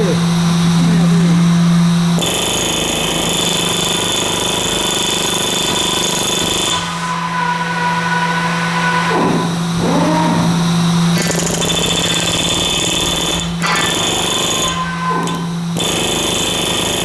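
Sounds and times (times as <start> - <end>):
air-powered tool running: 1.8 - 17.0.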